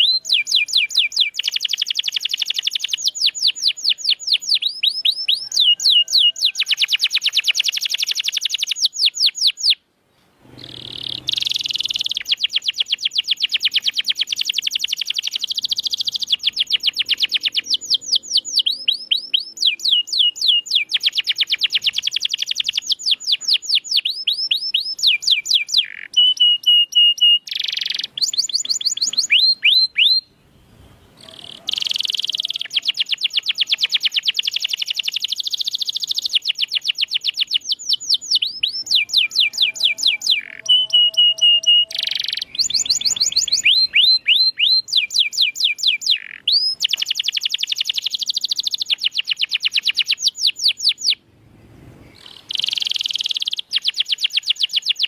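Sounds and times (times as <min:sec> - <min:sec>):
canary singing trills: 0:00.0 - 0:09.8, 0:10.4 - 0:51.2, 0:52.0 - 0:55.0.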